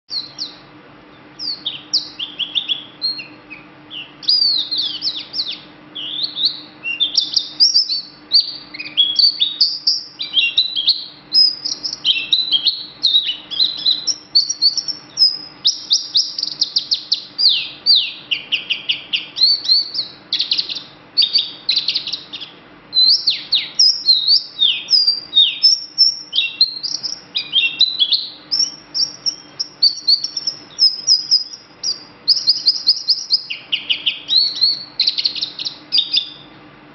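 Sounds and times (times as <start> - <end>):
songbird singing: 0.0 - 36.6
faint low hum: 0.1 - 36.9.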